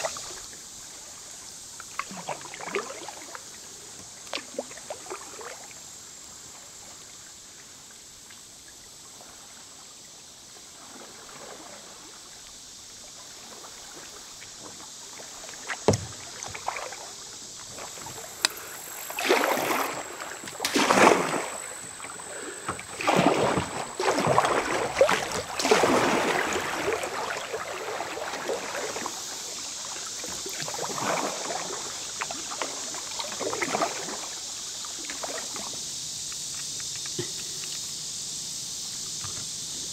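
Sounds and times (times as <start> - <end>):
paddle strokes splashing: 0.0 - 9.8, 10.6 - 39.9
rippling river: 0.0 - 39.9.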